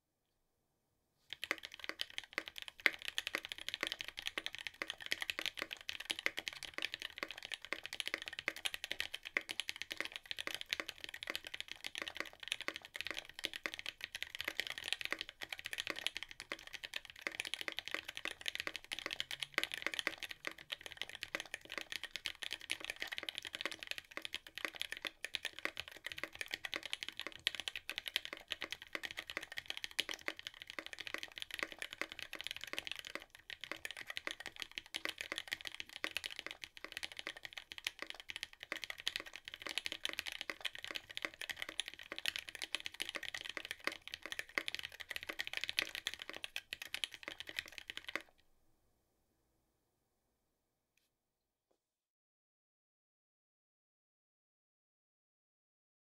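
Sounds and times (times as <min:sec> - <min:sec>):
mechanical keyboard typing: 0:01.3 - 0:48.4.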